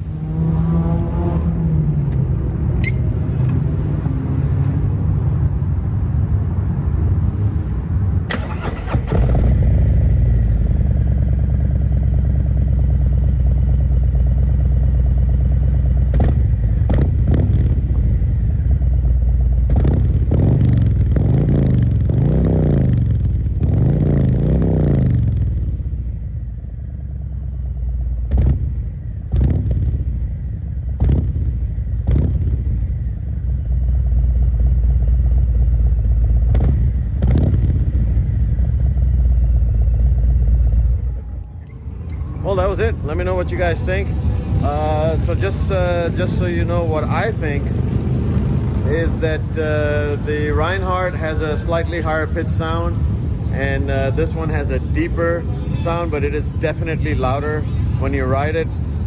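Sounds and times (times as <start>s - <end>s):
motorcycle throttle blips: 0.9s - 3.9s, 8.3s - 55.9s
motorcycle engine idling: 8.3s - 59.0s.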